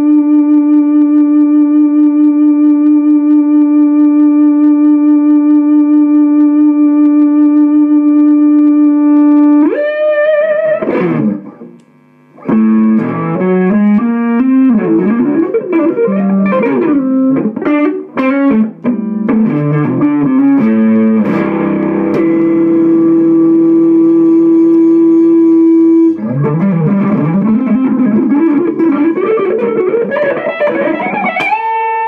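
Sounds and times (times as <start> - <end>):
overdriven electric guitar: 0.0 - 32.0.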